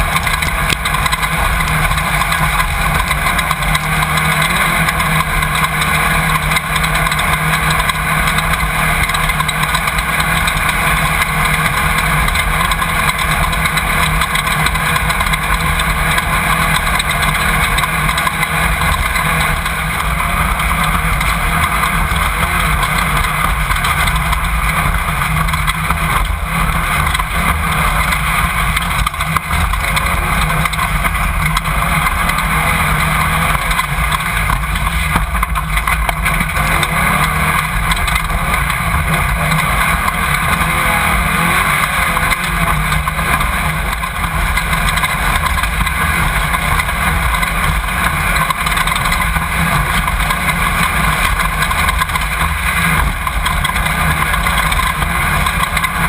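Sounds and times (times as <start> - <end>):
chassis rumble: 0.0 - 56.0
race car engine running: 0.0 - 56.0
wind: 0.0 - 56.0.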